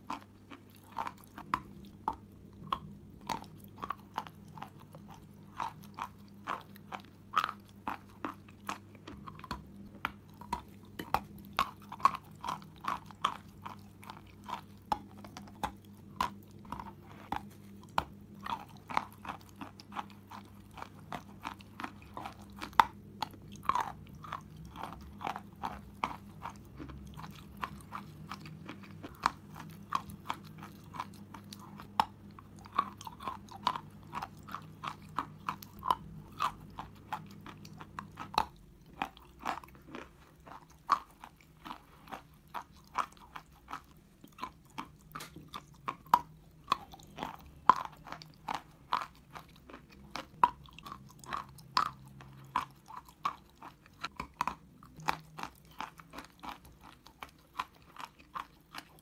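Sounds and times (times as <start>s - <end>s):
chalk crunching while chewing: 0.0s - 59.0s.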